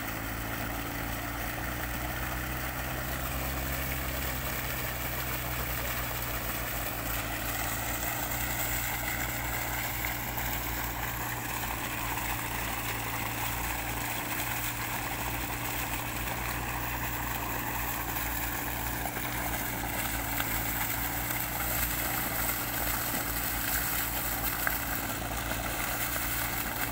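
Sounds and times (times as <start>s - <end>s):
diesel engine running pump: 0.0s - 26.9s
water gushing from pipe: 0.0s - 26.9s.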